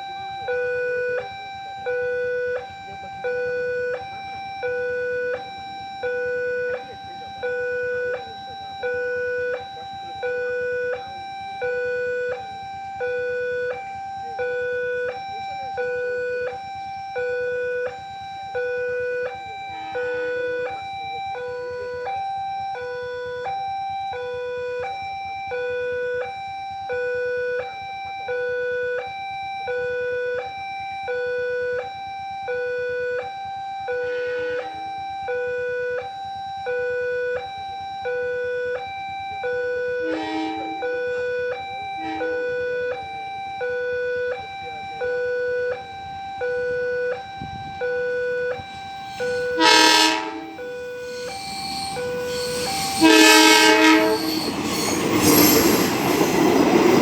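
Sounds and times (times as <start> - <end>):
level crossing two-tone alarm: 0.0 - 57.0.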